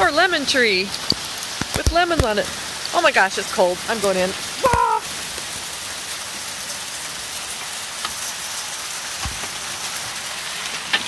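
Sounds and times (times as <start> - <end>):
hail and rain pelting: 0.0 - 11.0.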